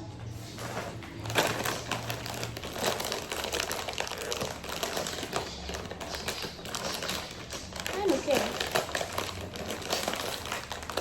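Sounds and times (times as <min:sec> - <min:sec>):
plastic packaging crinkling: 0:00.3 - 0:11.0.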